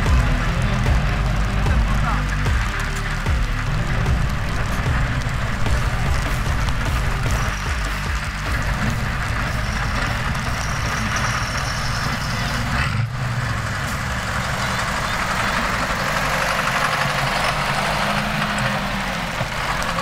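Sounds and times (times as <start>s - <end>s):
tank diesel engine idling: 0.0s - 20.0s.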